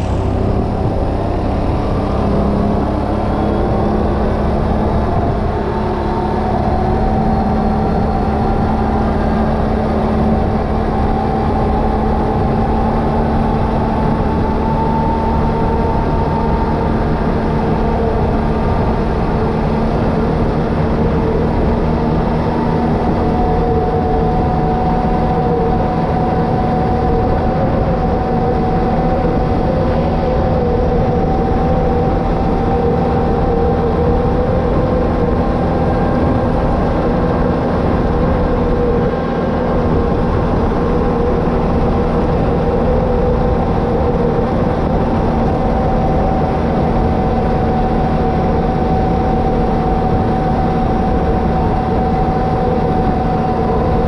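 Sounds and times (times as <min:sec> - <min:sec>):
atv engine droning: 0:00.0 - 0:54.0.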